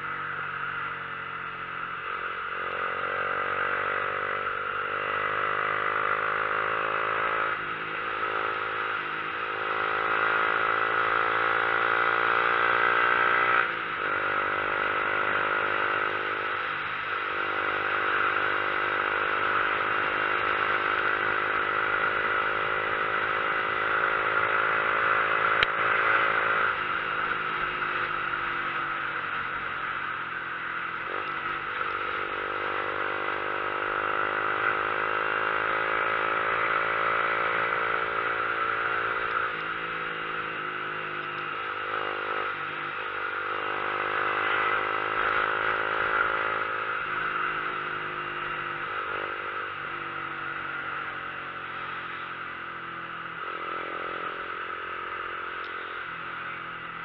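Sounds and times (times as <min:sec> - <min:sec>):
motorcycle engine climbing: 0:00.0 - 0:57.0.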